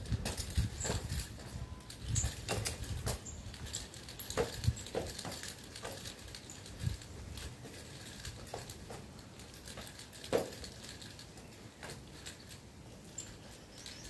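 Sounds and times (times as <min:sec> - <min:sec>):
nunchaku clacks and swishes: 0:00.0 - 0:14.0.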